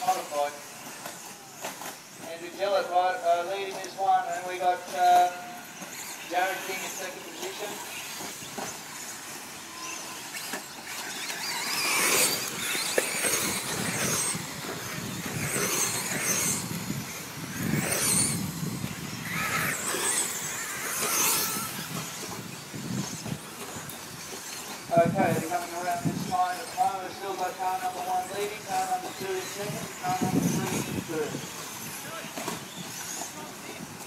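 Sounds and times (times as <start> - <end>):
electric toy truck motors whining: 0.0 - 34.0.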